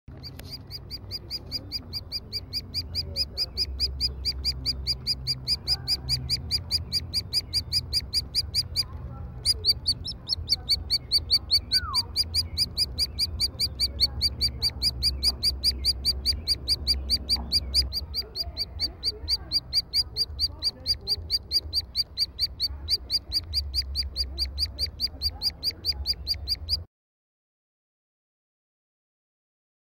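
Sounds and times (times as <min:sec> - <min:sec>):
nestling high begging calls: 0:00.2 - 0:26.8.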